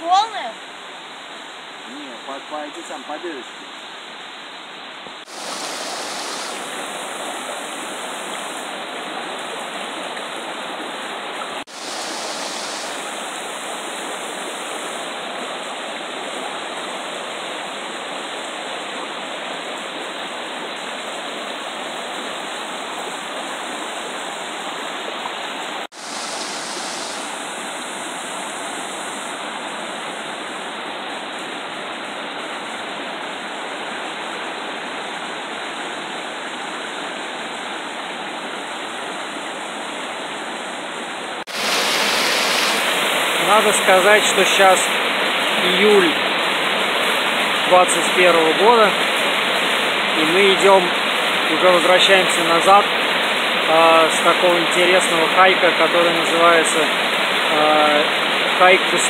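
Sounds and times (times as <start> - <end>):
river rushing over rocks: 5.2 - 59.0.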